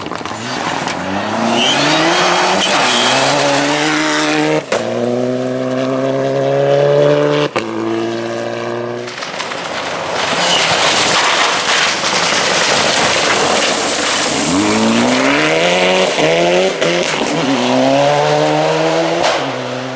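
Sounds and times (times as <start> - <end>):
rally car engine revving: 0.0 - 19.9.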